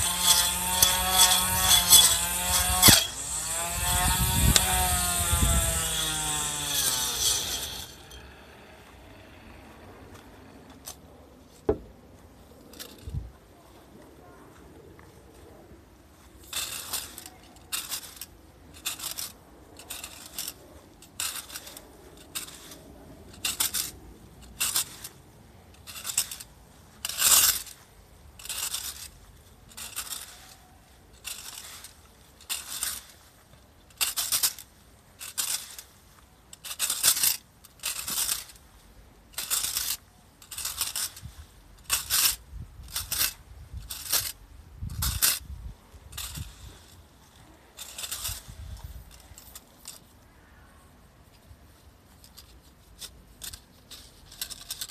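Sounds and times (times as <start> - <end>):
rake tines scraping grass: 0.0 - 11.0, 12.7 - 13.3, 16.2 - 54.9.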